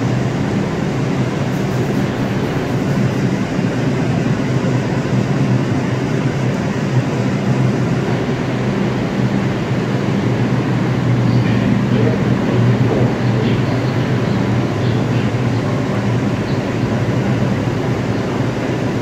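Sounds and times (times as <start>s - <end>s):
subway train equipment humming: 0.0s - 19.0s.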